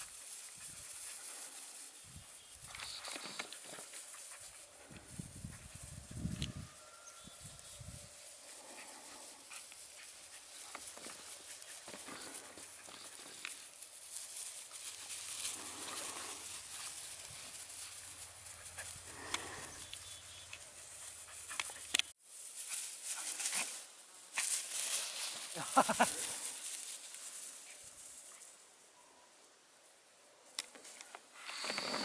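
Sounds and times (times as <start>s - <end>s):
puppies rustling in dry grass: 0.0s - 29.6s.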